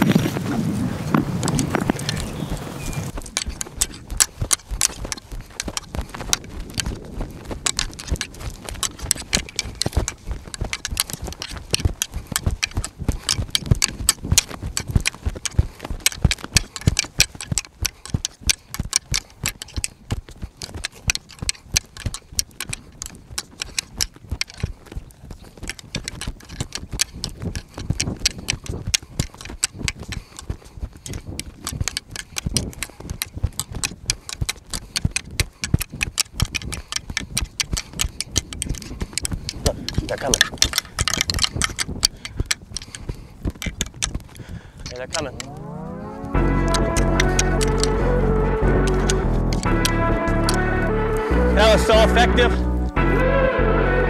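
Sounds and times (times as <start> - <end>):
hoofbeats clattering: 1.1 - 53.0.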